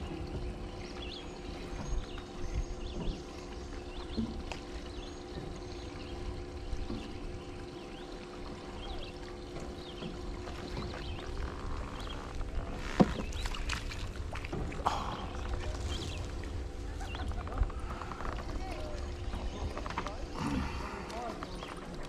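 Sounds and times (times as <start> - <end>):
birds chirping: 0.0 - 13.7, 14.8 - 22.0
low hum and rumble: 0.0 - 22.0.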